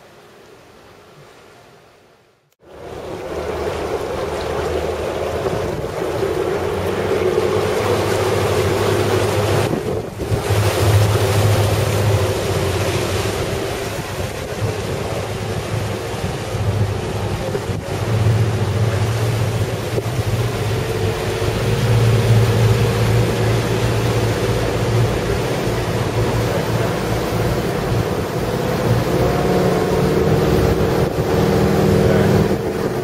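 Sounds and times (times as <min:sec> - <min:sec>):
rushing water: 0:00.0 - 0:33.0
motorboat engine hum: 0:02.5 - 0:33.0
wind on microphone: 0:02.7 - 0:33.0.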